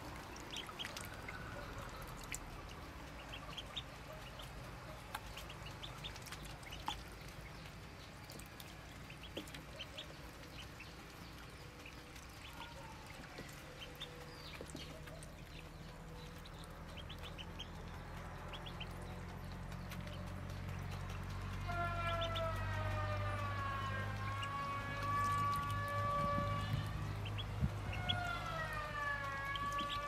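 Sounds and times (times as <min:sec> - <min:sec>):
ducklings peeping: 0:00.0 - 0:30.0
low steady hum: 0:00.0 - 0:30.0.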